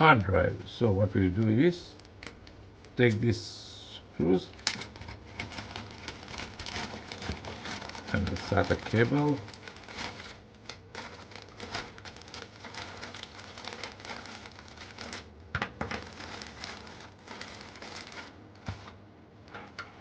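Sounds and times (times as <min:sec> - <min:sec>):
plastic packaging crinkling: 0:00.8 - 0:03.3, 0:03.9 - 0:20.0.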